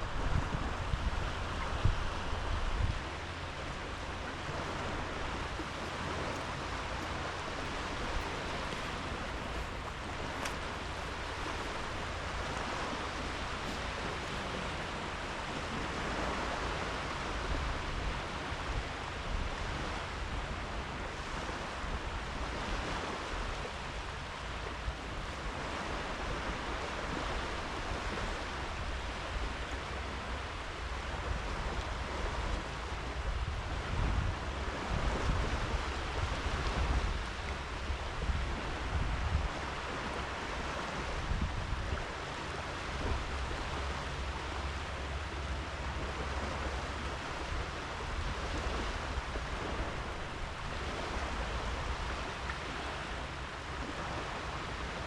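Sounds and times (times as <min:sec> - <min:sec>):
waves breaking on beach: 0:00.0 - 0:55.0
wind rumbling on microphone: 0:00.0 - 0:55.0.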